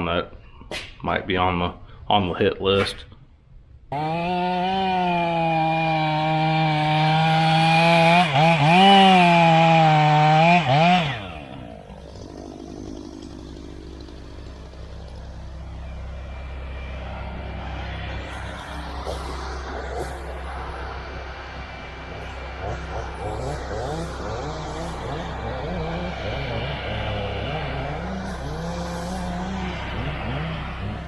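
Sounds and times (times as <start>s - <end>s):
chainsaw running: 3.9s - 31.0s.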